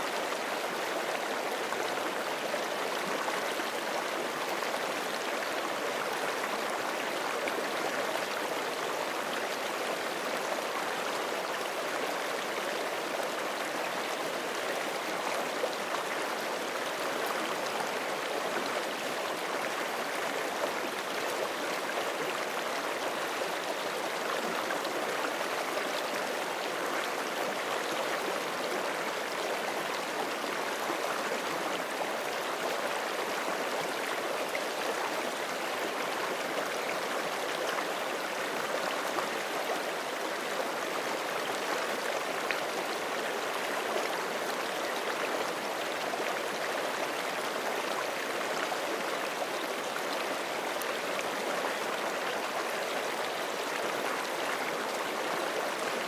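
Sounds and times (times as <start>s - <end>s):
creek flowing over rocks: 0.0s - 56.0s.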